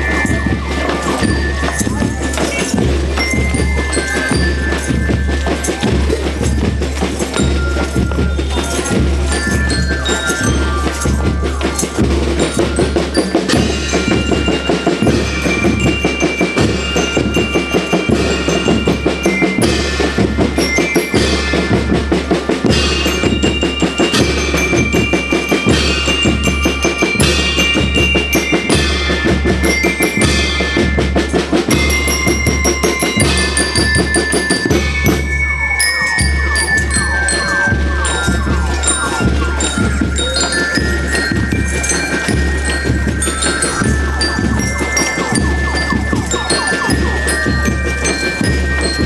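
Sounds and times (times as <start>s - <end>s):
bell lyres ringing a melody: 0.0s - 49.0s
snare and bass drums beating: 0.0s - 49.0s.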